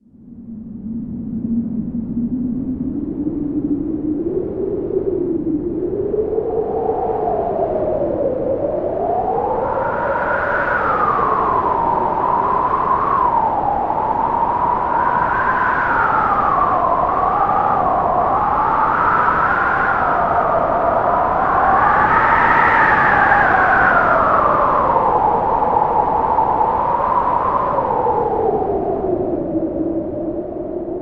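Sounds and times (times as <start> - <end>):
storm wind howling: 0.2 - 31.0.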